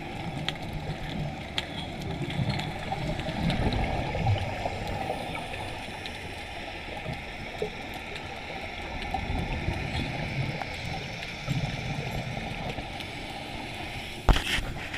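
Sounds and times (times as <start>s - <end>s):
faint underwater clicks: 0.0s - 14.9s
muffled underwater water rush: 0.0s - 14.9s.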